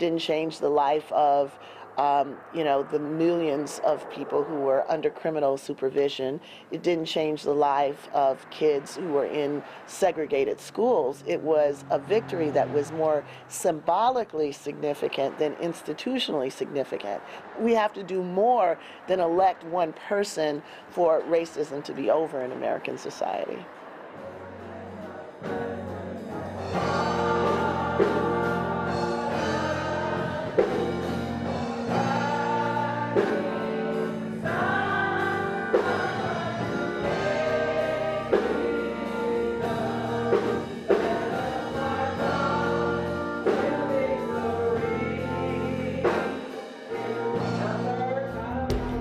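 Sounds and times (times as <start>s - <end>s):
choir singing gospel chords: 0.0s - 49.0s.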